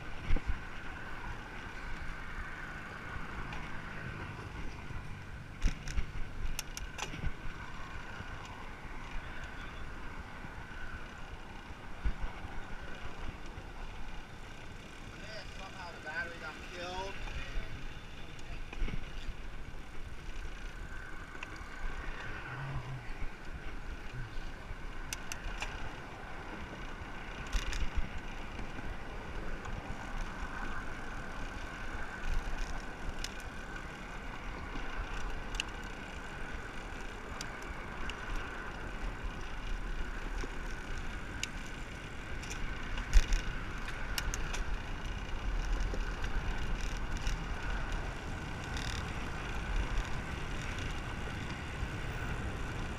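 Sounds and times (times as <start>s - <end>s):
bicycle rolling hum: 0.0s - 52.9s.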